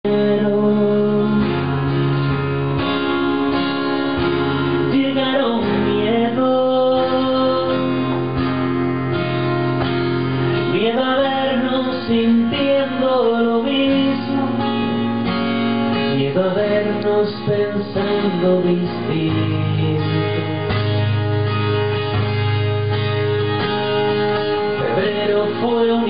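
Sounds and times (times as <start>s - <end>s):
acoustic guitar strumming: 0.1s - 26.0s.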